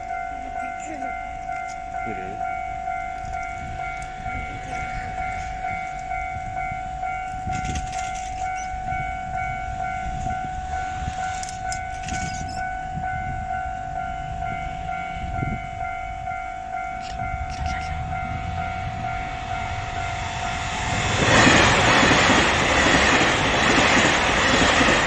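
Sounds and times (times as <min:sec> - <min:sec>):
railroad crossing alarm ringing: 0:00.0 - 0:25.0
train rumbling past: 0:00.0 - 0:25.0.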